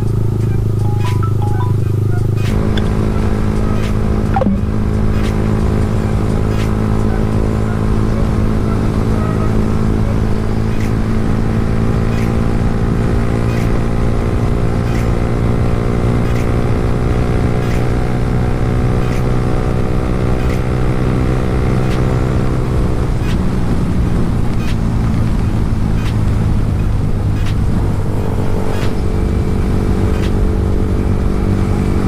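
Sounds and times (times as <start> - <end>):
motorcycle engine running: 1.8 - 32.0.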